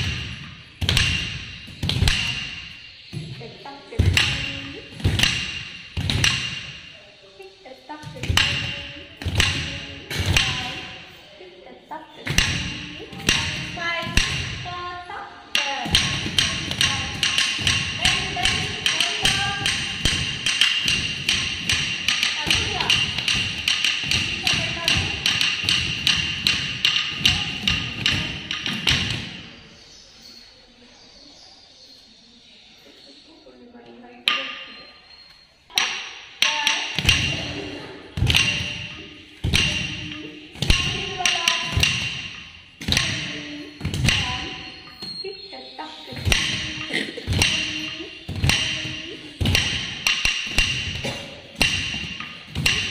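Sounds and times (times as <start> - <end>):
wooden stick beating wooden block: 0.0 - 6.9, 8.0 - 11.2, 12.2 - 29.6, 35.7 - 52.9.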